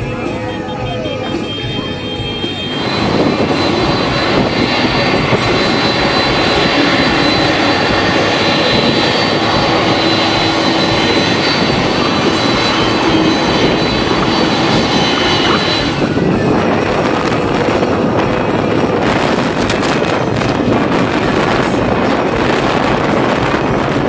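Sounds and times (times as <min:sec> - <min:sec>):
jet engines running loud: 0:00.0 - 0:24.0.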